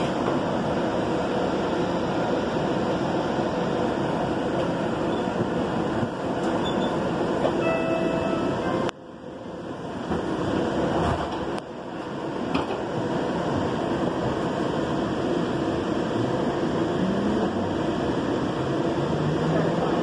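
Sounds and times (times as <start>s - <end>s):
light-rail train rumbling: 0.0s - 20.0s.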